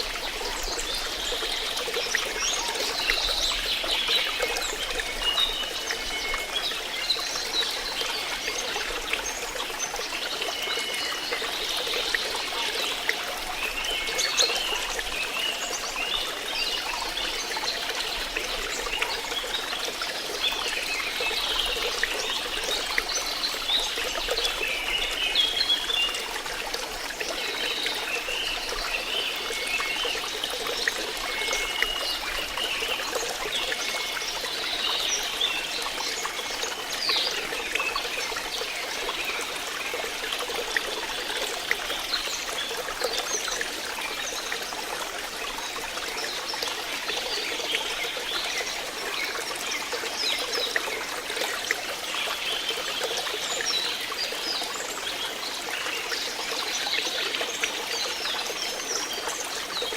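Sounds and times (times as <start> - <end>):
water trickling and gurgling: 0.0 - 59.9.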